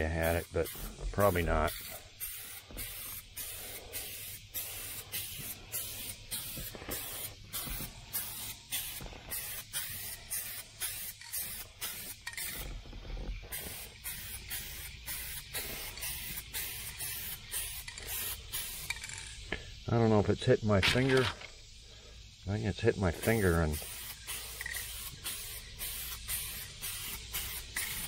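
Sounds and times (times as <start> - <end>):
aerosol spray hissing in spurts: 0.0 - 20.5, 21.5 - 28.0.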